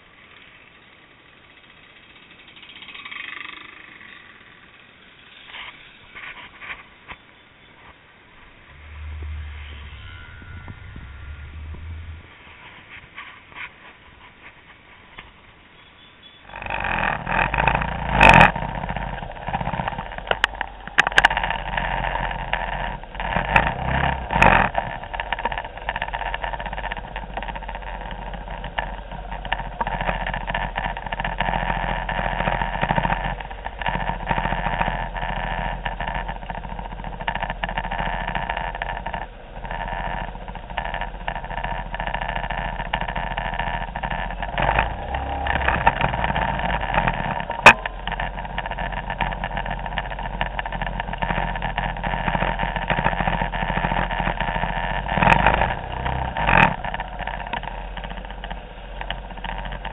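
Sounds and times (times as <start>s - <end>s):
scooter engines idling and revving: 0.0s - 59.9s.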